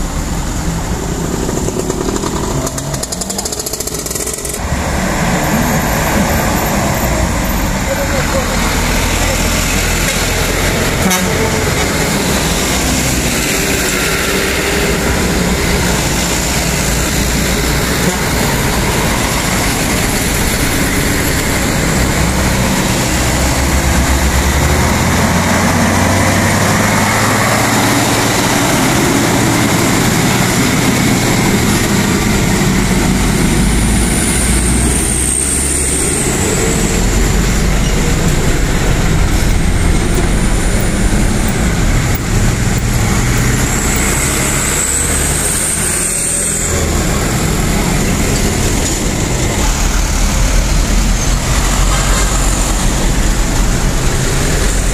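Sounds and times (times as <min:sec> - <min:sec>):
heavy diesel trucks passing: 0:00.0 - 0:54.9.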